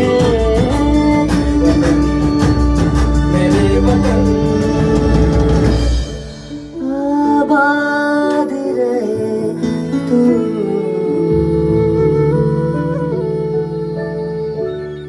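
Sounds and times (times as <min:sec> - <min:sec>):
electronic keyboard music: 0:00.0 - 0:15.0.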